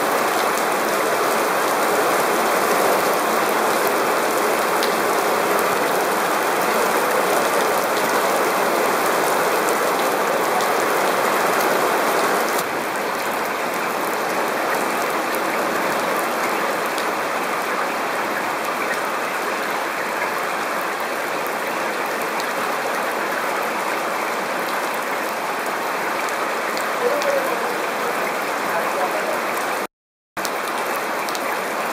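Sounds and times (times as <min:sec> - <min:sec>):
heavy rain on pavement: 0:00.0 - 0:31.9.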